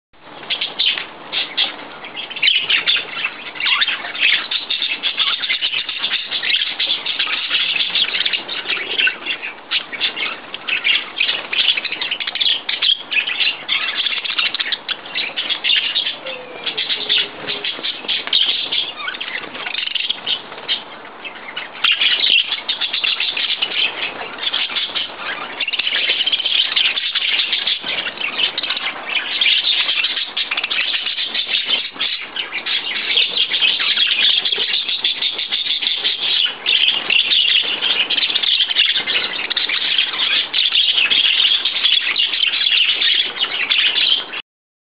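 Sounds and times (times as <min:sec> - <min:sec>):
many birds chirping: 0:00.2 - 0:44.4.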